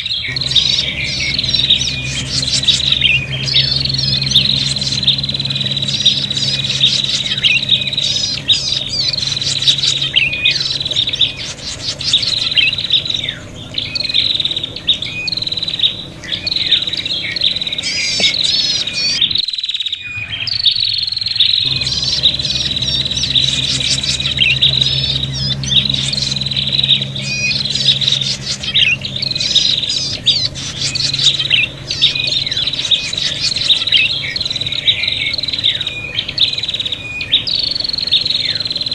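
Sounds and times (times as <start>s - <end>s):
steady high tone: 0.0s - 19.4s, 21.5s - 38.9s
bird chattering chirps and trills: 0.0s - 38.9s.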